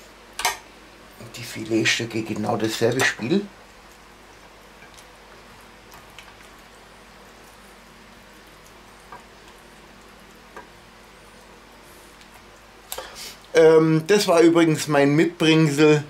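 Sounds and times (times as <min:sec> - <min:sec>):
room hiss: 0:00.0 - 0:16.0.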